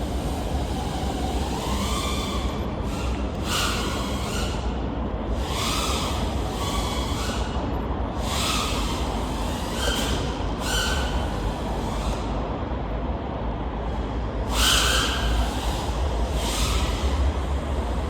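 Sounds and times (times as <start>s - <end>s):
quadcopter motors whining: 0.0s - 12.4s, 14.4s - 17.6s.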